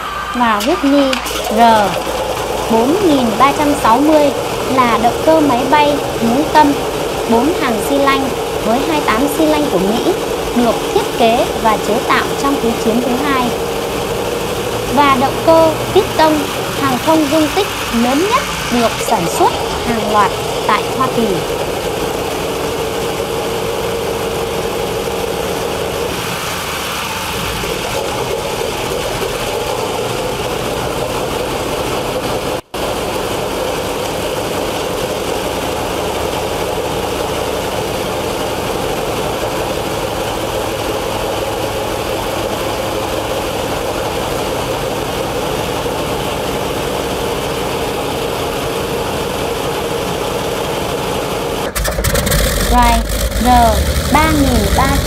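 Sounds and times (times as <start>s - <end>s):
radial aircraft engine running: 0.0s - 55.0s.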